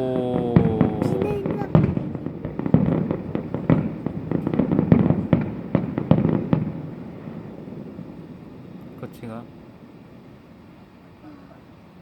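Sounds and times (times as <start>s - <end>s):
fireworks bangs and crackling: 0.0s - 11.1s.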